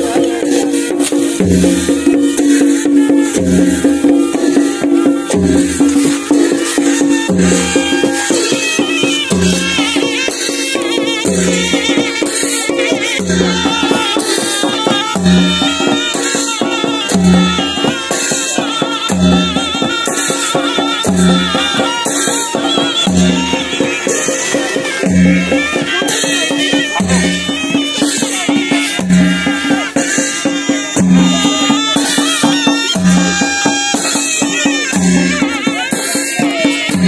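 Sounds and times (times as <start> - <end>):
barrel drums beating: 0.0 - 37.0.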